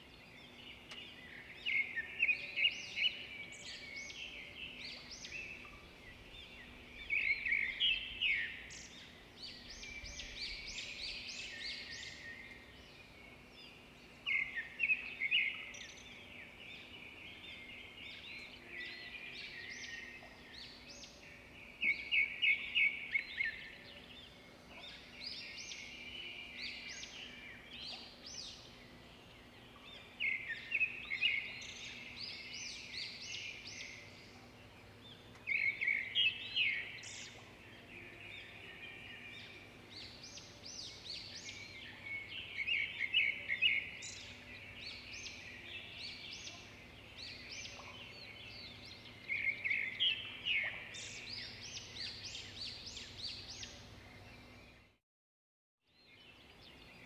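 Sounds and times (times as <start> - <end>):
birds chirping and singing: 0.0 - 54.9, 55.9 - 57.0.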